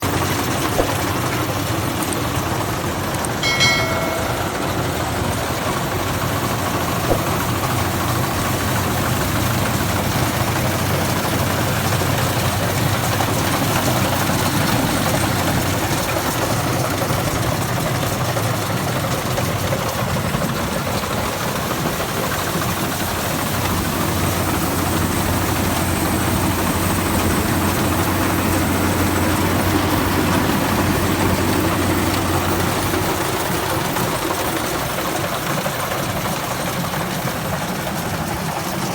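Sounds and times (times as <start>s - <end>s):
combine harvester engine droning: 0.0s - 38.9s.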